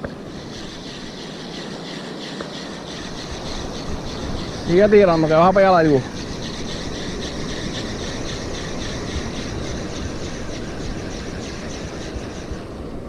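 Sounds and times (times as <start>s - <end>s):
spinning reel whirring and ticking: 0.0s - 12.7s
wind: 0.0s - 13.0s.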